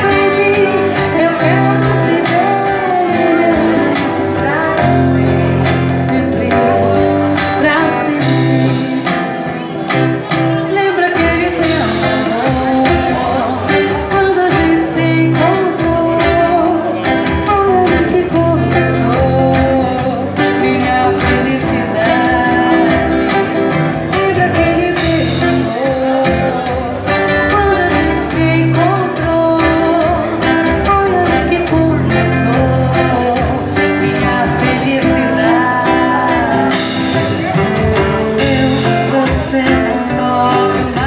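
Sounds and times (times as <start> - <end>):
woman singing pop ballad: 0.0 - 9.7, 10.5 - 41.0
drums and cymbals: 0.0 - 41.0
guitar: 0.0 - 41.0.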